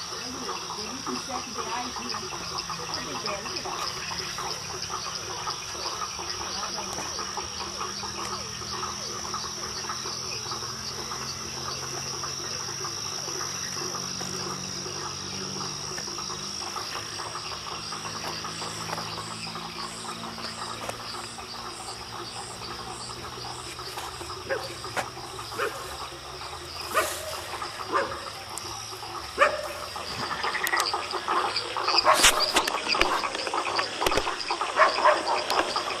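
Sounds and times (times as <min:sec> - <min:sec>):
frogs calling: 0:00.0 - 0:36.0
high insect trill: 0:00.0 - 0:36.0.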